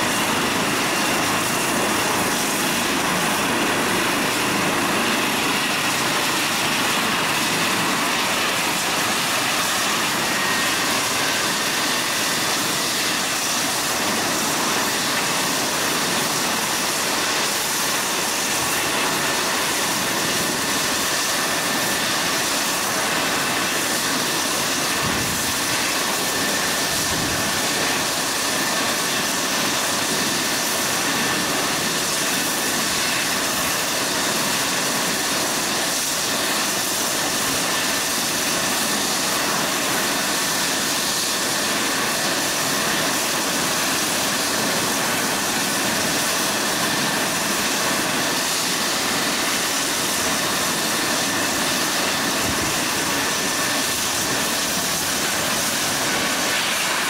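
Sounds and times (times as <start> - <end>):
helicopter rotor noise: 0.0 - 57.0
helicopter turbine whine: 0.0 - 57.0.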